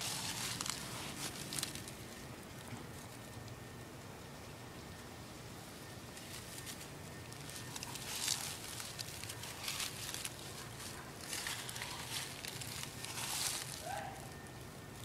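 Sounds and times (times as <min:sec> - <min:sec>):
rustling through dry leaves: 0:00.0 - 0:03.2, 0:06.0 - 0:15.0.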